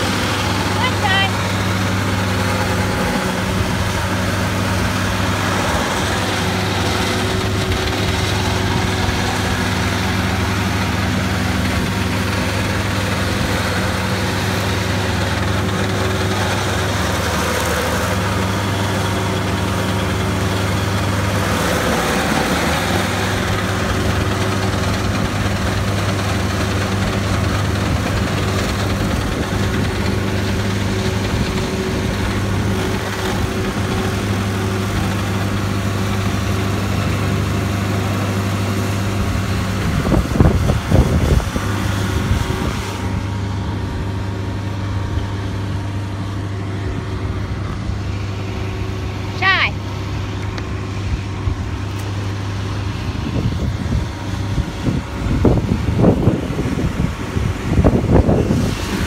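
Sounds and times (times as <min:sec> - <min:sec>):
stump grinder engine droning: 0:00.0 - 0:59.0.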